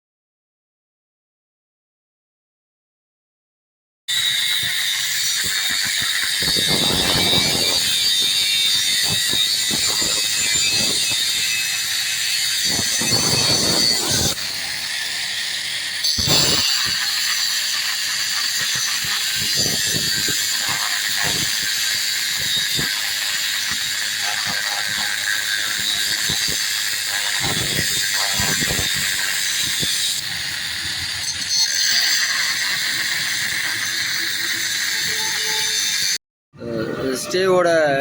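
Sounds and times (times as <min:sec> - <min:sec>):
angle grinder cutting steel: 0:04.1 - 0:38.0.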